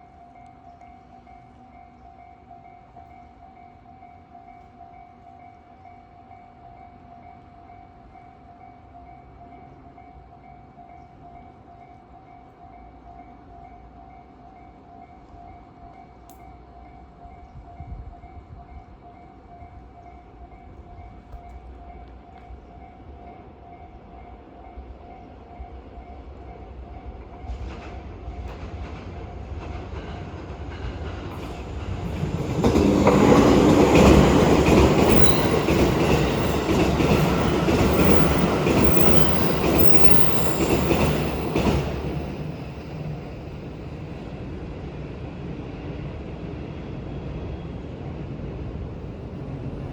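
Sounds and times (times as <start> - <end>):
electric train passing: 0.0 - 49.9.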